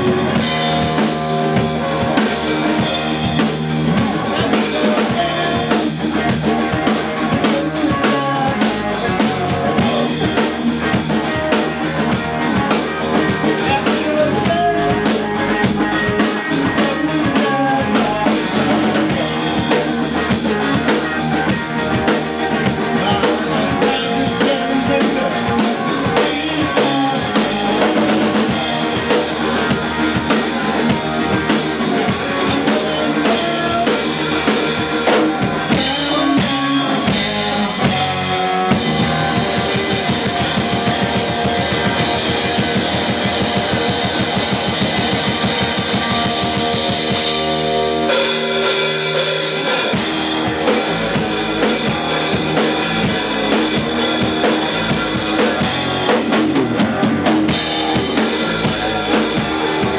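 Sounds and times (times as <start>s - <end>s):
drum kit steady beat: 0.0s - 59.9s
electric bass guitar: 0.0s - 59.9s
electric guitar: 0.0s - 59.9s.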